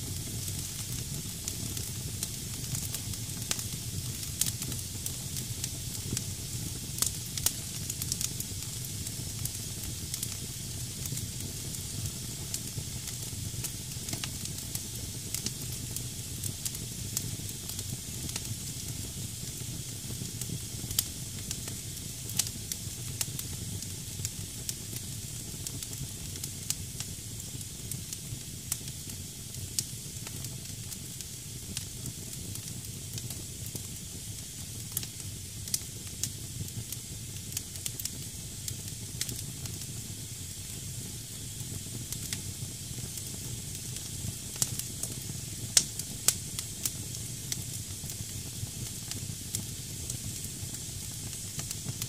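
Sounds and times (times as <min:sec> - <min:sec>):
fire crackling and popping: 0:00.0 - 0:52.0.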